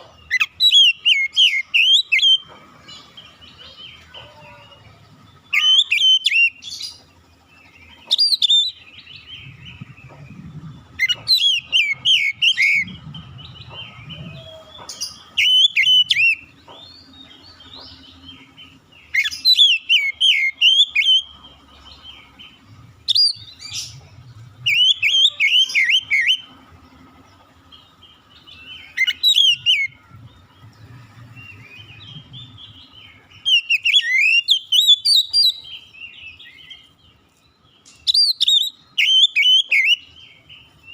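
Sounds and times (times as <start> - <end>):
bird singing whistled notes: 0.2 - 3.4, 5.3 - 7.0, 7.6 - 26.6, 27.8 - 40.9.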